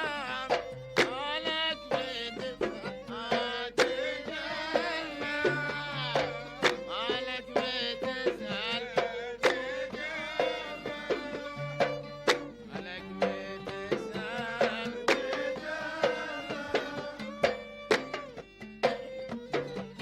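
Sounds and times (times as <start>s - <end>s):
sharp drum strokes: 0.0s - 20.0s.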